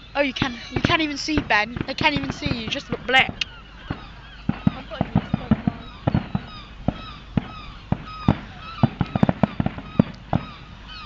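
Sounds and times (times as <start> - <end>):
fireworks bangs: 0.4 - 10.7.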